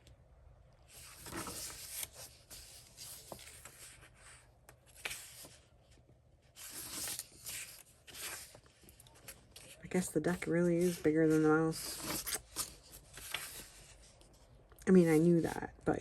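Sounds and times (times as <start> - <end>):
paper pages rustling: 0.9 - 14.4.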